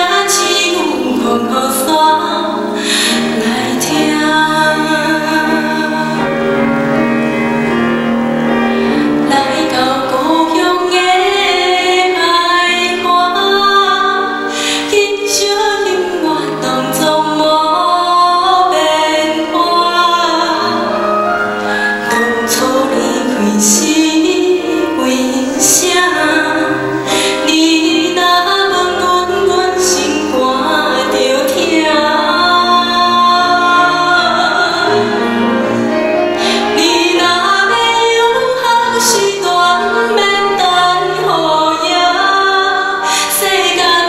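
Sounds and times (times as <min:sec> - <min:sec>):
woman singing a slow ballad: 0:00.0 - 0:06.3, 0:09.2 - 0:21.0, 0:22.0 - 0:35.4, 0:36.4 - 0:44.0
grand piano: 0:00.0 - 0:44.0.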